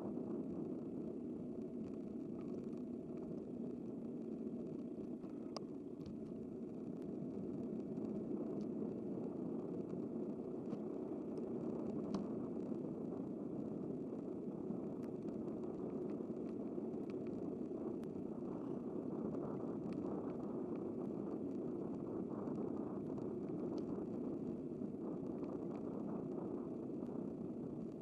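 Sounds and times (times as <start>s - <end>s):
wind and tyre noise: 0.0s - 28.0s
faint ticks: 1.6s - 28.0s.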